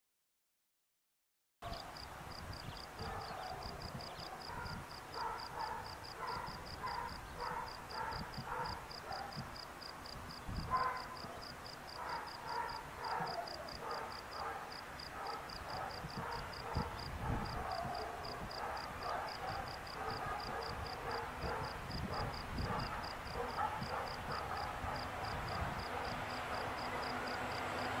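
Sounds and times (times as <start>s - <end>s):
low rumble of wind: 1.8s - 28.0s.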